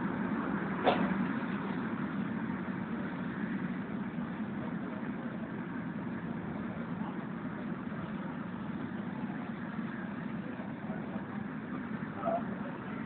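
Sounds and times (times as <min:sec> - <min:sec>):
train carriage rumbling on track: 0:00.0 - 0:13.0.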